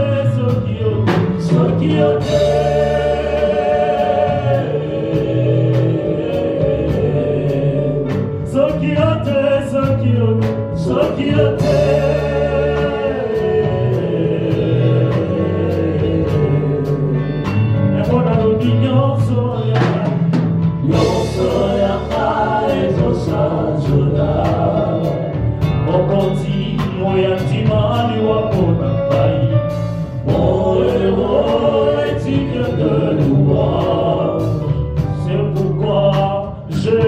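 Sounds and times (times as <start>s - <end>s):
bass: 0.0s - 37.0s
choir singing gospel: 0.0s - 37.0s
drum kit beat: 0.0s - 37.0s.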